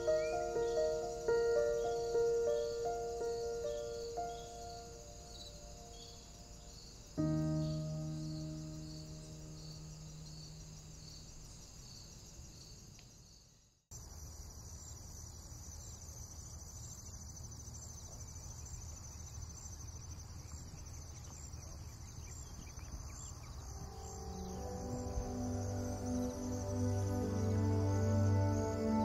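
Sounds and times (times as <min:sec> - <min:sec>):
dense insect chorus: 0:00.0 - 0:29.0
pulsing insect chirping: 0:00.0 - 0:29.0.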